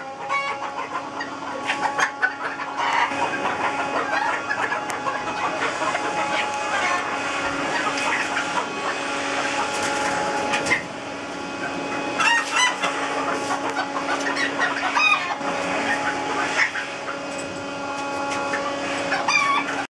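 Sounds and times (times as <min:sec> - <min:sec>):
chickens clucking: 0:00.0 - 0:19.9
low background hum: 0:00.0 - 0:19.9.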